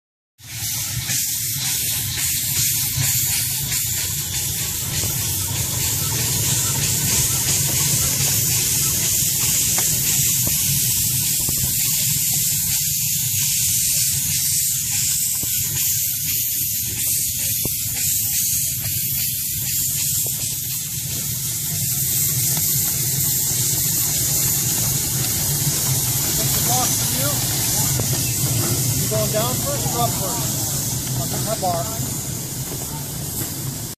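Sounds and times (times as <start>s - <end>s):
steam hissing: 0.4s - 33.9s.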